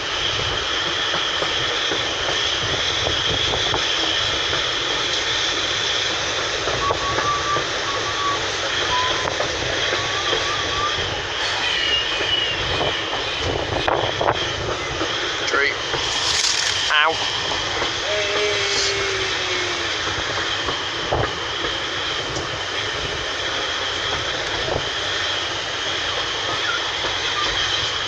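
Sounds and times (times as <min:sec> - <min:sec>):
train wheels rattling on rails: 0:00.0 - 0:28.0.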